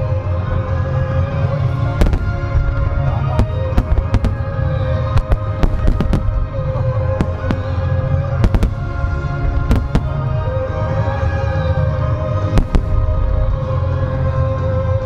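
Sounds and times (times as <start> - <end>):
deep rumble of fireworks firing: 0.0 - 15.0
music playing: 0.0 - 15.0.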